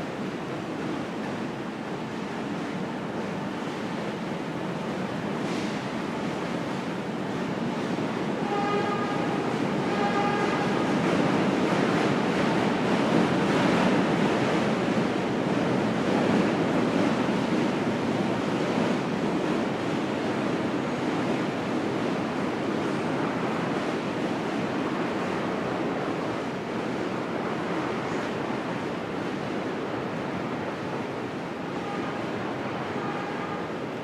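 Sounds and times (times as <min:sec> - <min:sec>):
city traffic roar: 0:02.8 - 0:34.0.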